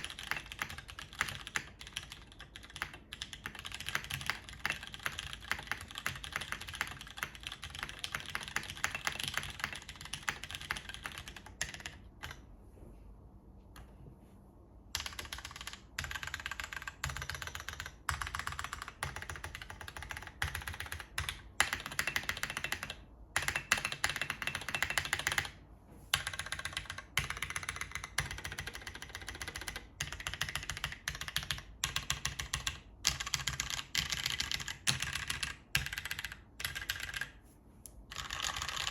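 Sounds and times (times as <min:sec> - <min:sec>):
fast mechanical keyboard typing: 0:00.0 - 0:12.4, 0:14.9 - 0:37.4, 0:38.1 - 0:38.9.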